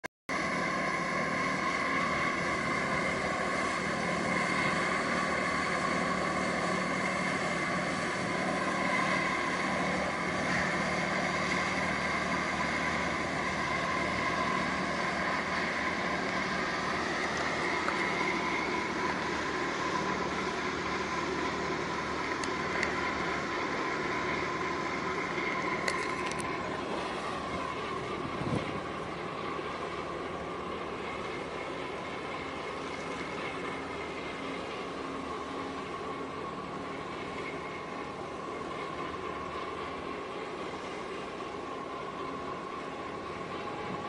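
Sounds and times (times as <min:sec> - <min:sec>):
diesel engines droning: 0:00.3 - 0:44.0
high whine: 0:00.3 - 0:44.0.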